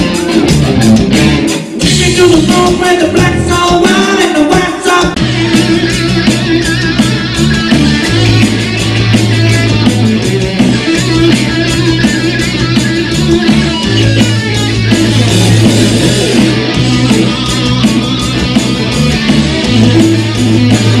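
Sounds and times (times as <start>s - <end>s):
bass guitar: 0.0s - 21.0s
drum kit: 0.0s - 21.0s
electric guitar: 0.0s - 21.0s.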